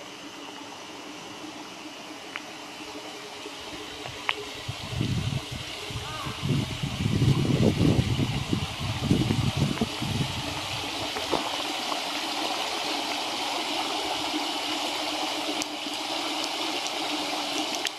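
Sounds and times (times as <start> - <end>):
stream running over stones: 0.0 - 17.9.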